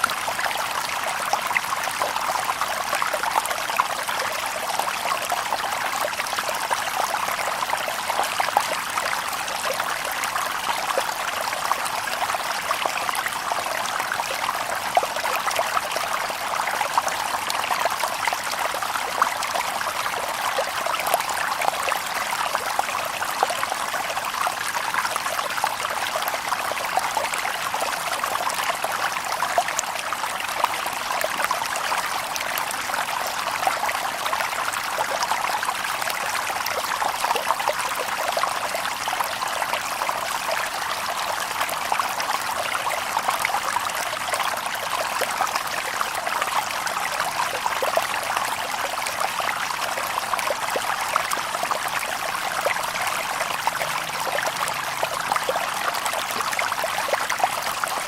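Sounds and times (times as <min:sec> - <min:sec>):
river babbling over stones: 0:00.0 - 0:58.0.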